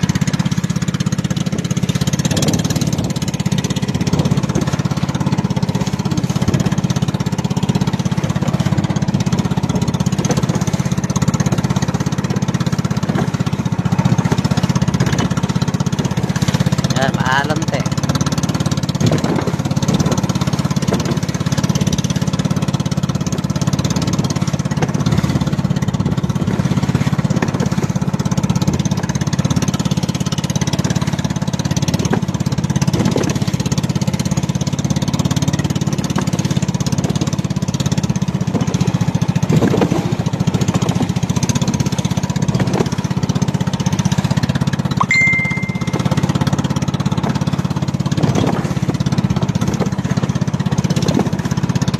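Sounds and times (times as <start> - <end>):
boat engine running: 0.0 - 51.9
water rushing along hull: 0.0 - 51.9.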